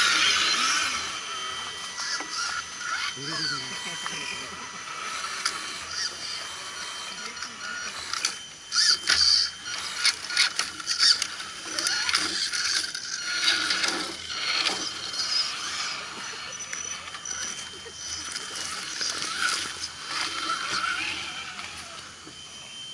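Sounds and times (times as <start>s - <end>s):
electric motors whining: 0.0s - 22.9s.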